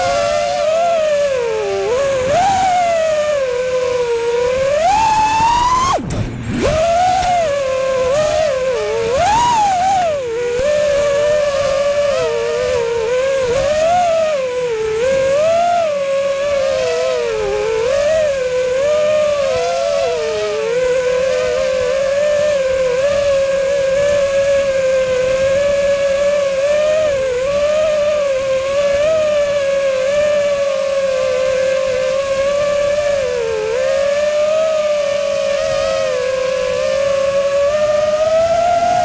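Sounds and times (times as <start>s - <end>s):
quadcopter motors whining: 0.0s - 39.0s.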